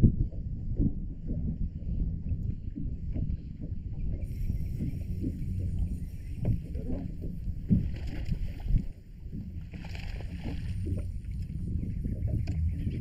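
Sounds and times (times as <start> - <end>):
water against hull: 0.0 - 13.0
wind on microphone: 0.0 - 13.0.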